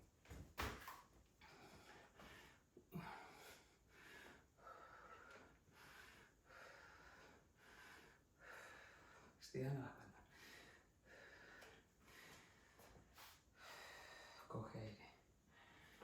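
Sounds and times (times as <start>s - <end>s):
woman breathing heavily: 1.4s - 9.4s, 10.2s - 14.5s, 15.3s - 16.0s.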